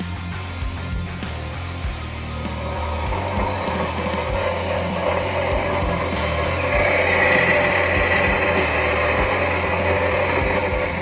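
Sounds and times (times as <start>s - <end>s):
band saw humming: 0.0s - 11.0s
saw cutting metal tube: 0.0s - 11.0s.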